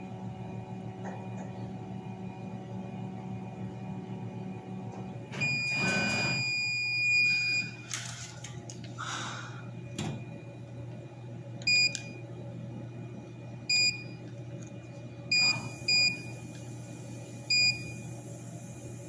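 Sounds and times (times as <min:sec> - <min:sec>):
laser cutting machine hum: 0:00.0 - 0:19.0.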